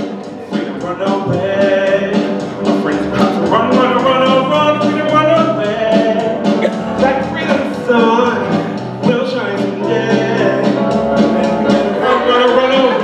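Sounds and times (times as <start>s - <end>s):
band playing steady beat: 0.0s - 13.0s
people singing: 0.0s - 13.0s.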